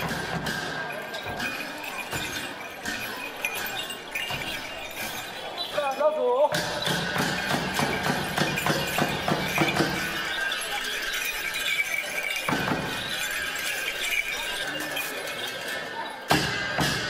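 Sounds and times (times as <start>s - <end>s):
drum strikes: 0.0s - 5.4s, 6.5s - 14.6s, 16.3s - 17.0s
hand cymbals clashing: 0.0s - 17.0s.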